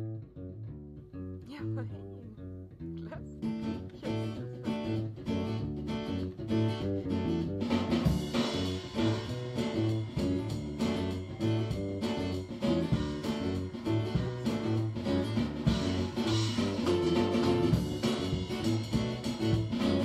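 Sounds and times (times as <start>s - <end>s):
guitar music with steady beat: 0.0s - 20.0s.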